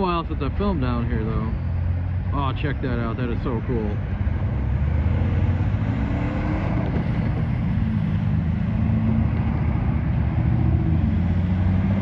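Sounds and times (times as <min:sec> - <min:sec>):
diesel locomotive engine drone: 0:00.0 - 0:12.0
passing train rumble: 0:00.0 - 0:12.0.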